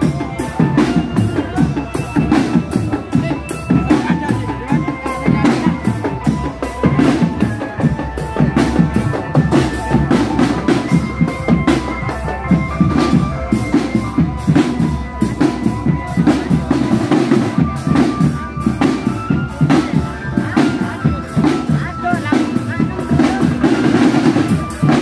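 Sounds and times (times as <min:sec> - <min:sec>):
held melody notes: 0:00.0 - 0:25.0
snare and bass drums beating: 0:00.0 - 0:25.0.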